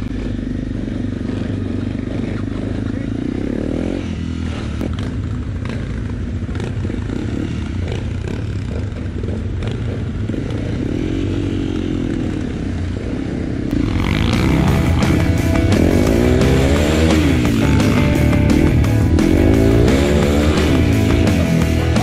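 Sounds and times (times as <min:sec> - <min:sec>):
off-road motorcycle engine: 0:00.0 - 0:22.0.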